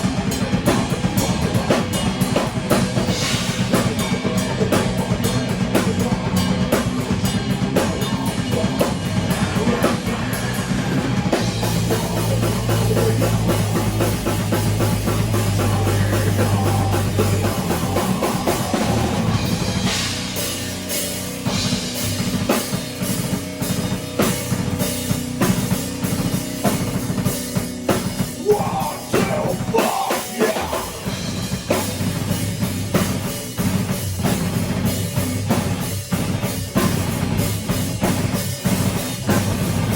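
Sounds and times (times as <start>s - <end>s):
drum kit with cymbals: 0.0s - 39.9s
electric guitar: 0.0s - 39.9s
rock band playing: 0.0s - 39.9s.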